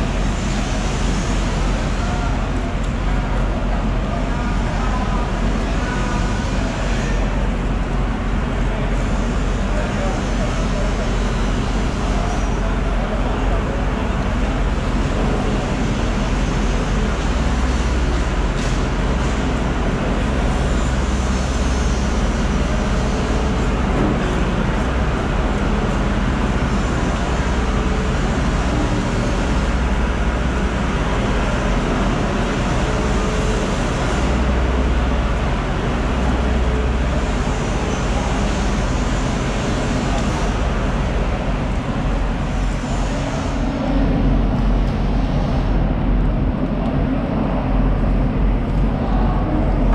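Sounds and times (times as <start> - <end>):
faint voices: 0.0 - 49.9
low rumble and hiss: 0.0 - 49.9.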